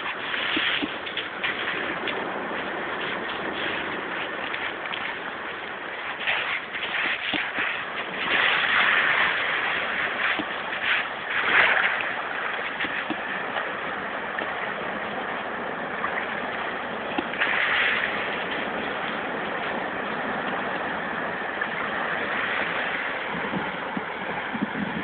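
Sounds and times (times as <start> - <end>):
waves washing on shore: 0.0 - 25.0.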